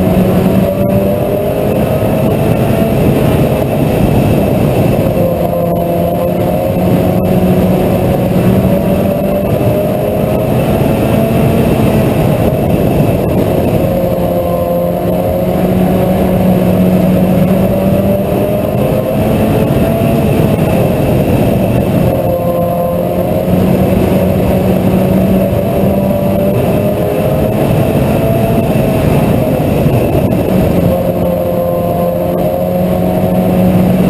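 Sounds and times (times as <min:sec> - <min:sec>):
race car engine running: 0:00.0 - 0:34.0.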